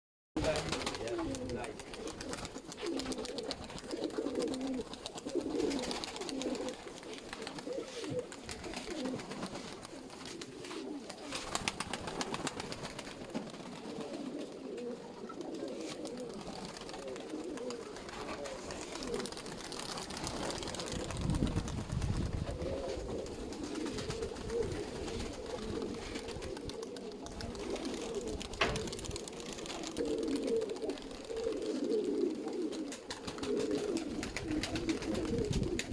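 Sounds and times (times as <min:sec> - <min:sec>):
pigeons cooing: 0:00.4 - 0:35.9.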